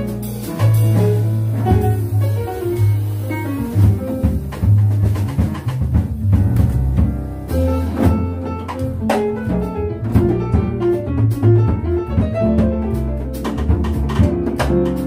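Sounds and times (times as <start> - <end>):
piano: 0.0 - 15.0
plucked upright bass: 0.0 - 15.0.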